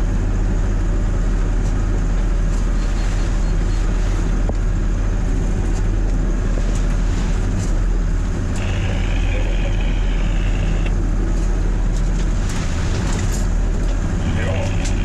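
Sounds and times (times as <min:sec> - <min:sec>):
diesel engine running under load: 0:00.0 - 0:15.0
hull working through waves: 0:00.0 - 0:15.0.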